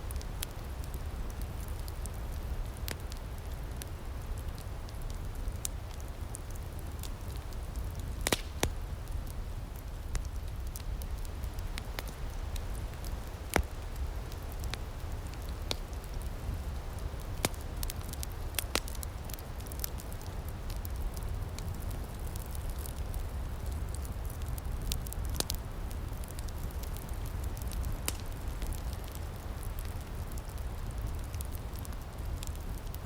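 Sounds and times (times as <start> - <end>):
wood fire crackling: 0.0 - 33.0
sharp pops of fire: 4.5 - 25.6, 26.2 - 33.0.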